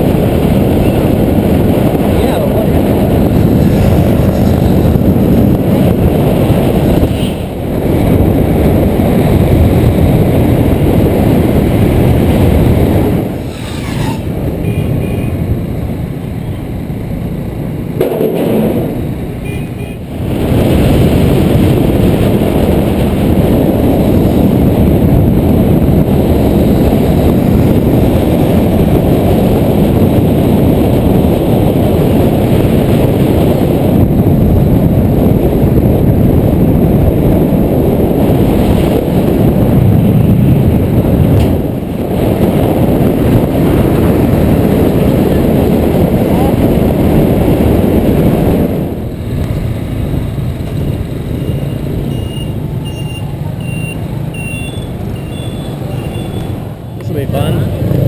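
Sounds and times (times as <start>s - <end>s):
motorbike engines: 0.0s - 58.0s
road noise: 0.0s - 58.0s
wind buffeting microphone: 0.0s - 58.0s.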